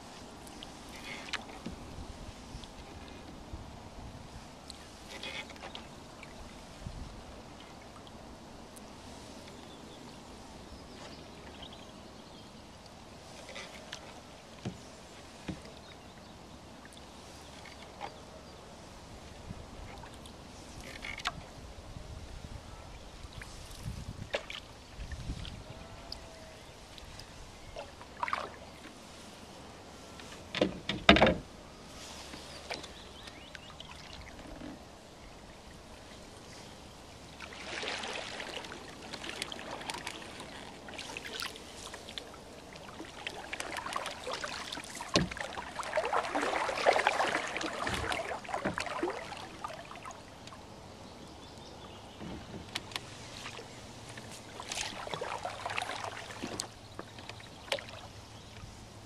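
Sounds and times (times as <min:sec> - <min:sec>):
paddle splashing water: 0:00.0 - 0:59.0.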